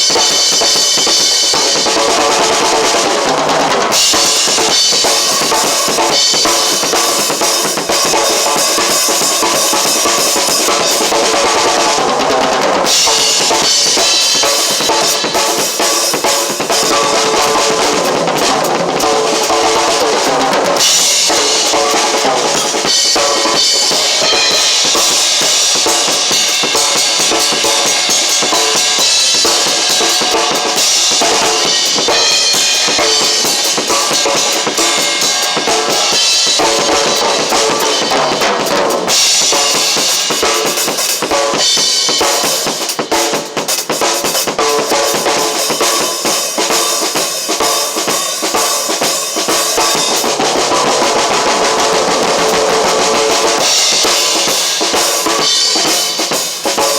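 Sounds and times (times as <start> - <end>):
drum kit playing: 0.0 - 56.9
music: 0.0 - 56.9.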